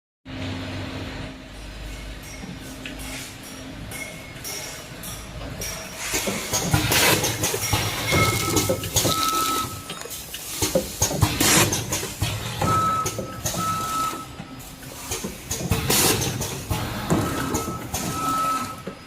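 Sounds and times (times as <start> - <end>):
packing machine clatter: 2.0 - 19.0.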